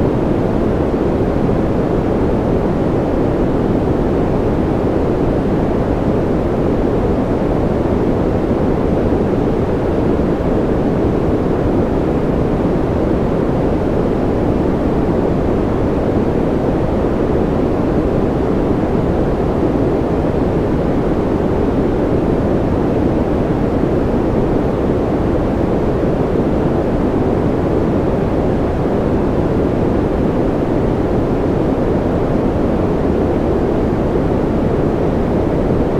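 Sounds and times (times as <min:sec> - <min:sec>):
deep white noise: 0:00.0 - 0:35.9.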